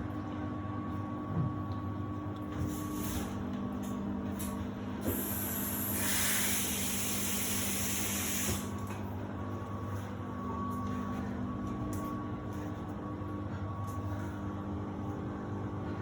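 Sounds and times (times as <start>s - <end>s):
washing machine humming: 0.0s - 16.0s.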